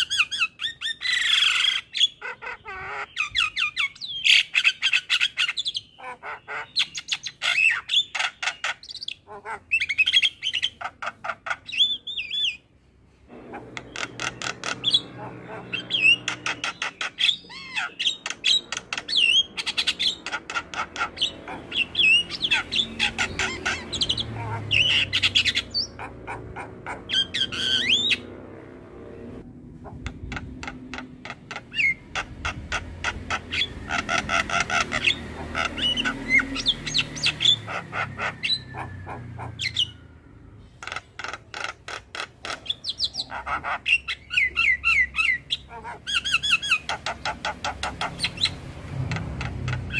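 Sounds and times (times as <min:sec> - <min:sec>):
bird singing chattering song: 0:00.0 - 0:12.8, 0:13.5 - 0:28.4, 0:29.8 - 0:49.9.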